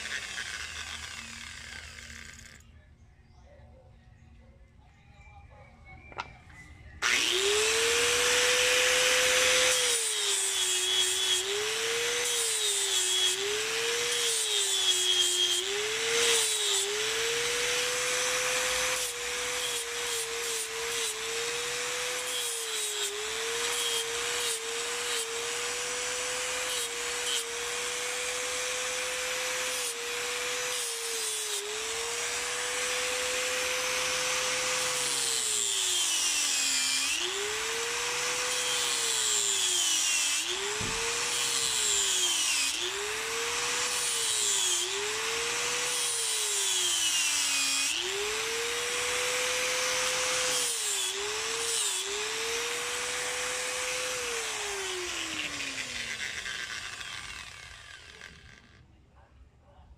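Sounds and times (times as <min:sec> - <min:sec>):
angle grinder grinding horn: 0:00.0 - 0:02.6, 0:07.0 - 0:58.7.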